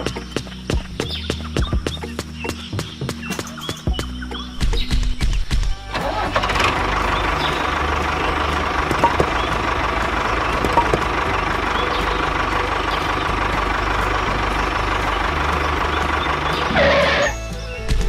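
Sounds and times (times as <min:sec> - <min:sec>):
tractor engine idling: 0:00.0 - 0:04.8, 0:05.5 - 0:18.0.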